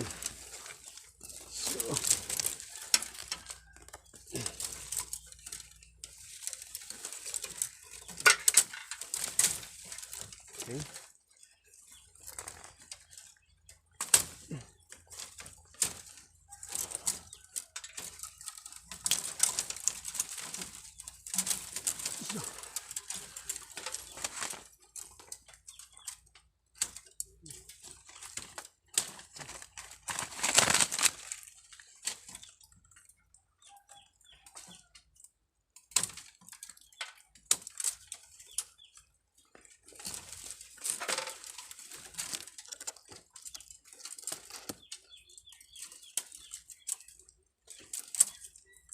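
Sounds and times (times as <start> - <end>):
leaves and twigs rustling: 0.0 - 48.9.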